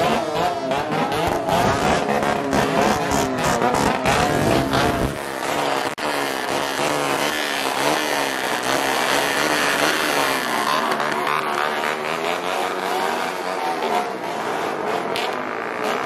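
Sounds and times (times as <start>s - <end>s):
two-stroke motorcycle engines revving: 0.0s - 16.0s.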